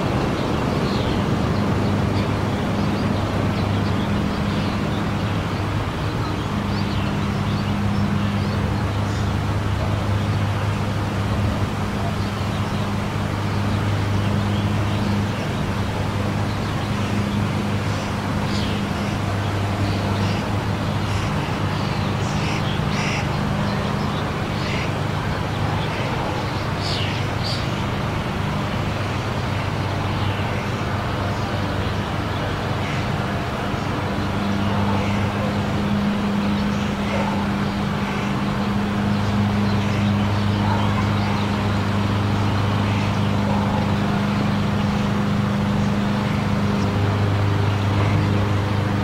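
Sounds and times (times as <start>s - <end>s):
monorail motor hum: 0.0s - 49.0s.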